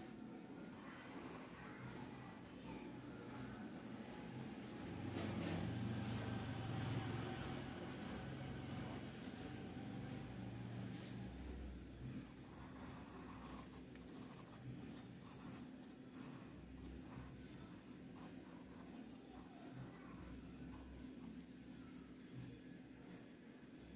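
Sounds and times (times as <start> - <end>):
cricket chirping: 0.0 - 23.9
faint steady high tone: 0.0 - 23.9.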